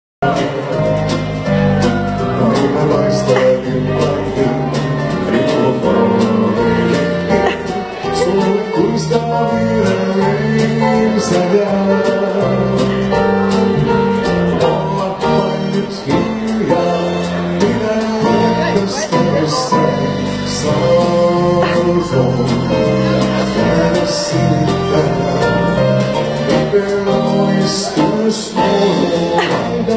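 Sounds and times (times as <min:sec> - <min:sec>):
song with singing and guitar: 0:00.2 - 0:29.9.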